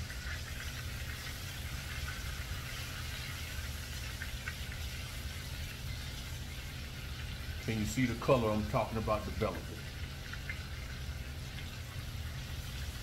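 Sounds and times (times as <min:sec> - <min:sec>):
meat sizzling in a pan: 0:00.0 - 0:07.6, 0:09.8 - 0:13.0
low steady hum: 0:00.0 - 0:13.0.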